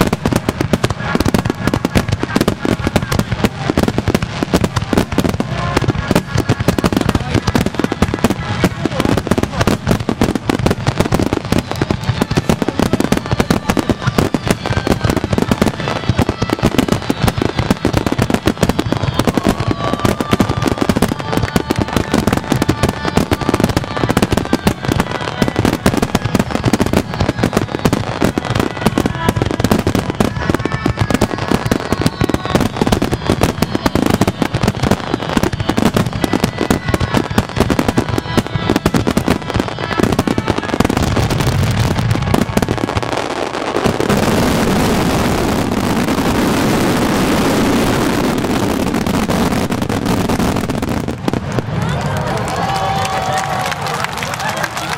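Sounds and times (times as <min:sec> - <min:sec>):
fireworks crackling and popping: 0:00.0 - 0:54.9.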